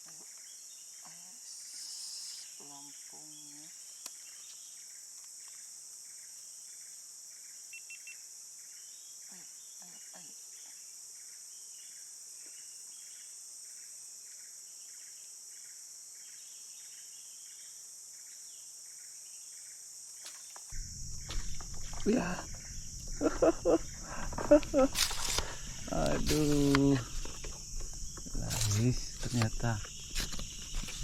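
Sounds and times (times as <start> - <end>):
insects droning: 0.0 - 31.0
short insect chirp: 0.0 - 31.0.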